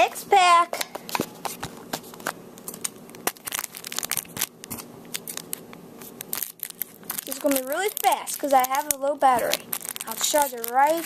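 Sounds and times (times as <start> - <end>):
wrapper crinkling and tearing: 2.1 - 11.0.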